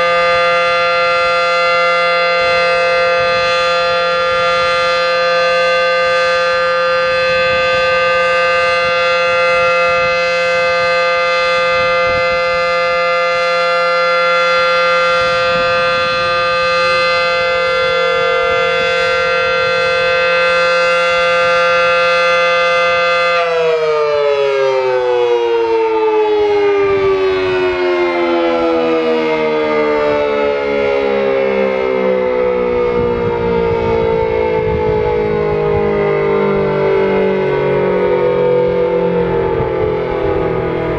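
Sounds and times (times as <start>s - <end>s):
warning siren alert tone: 0.0s - 40.9s.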